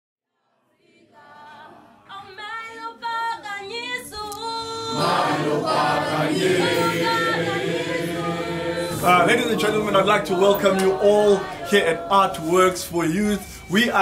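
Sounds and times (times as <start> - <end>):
group singing unaccompanied: 0.7 - 14.0.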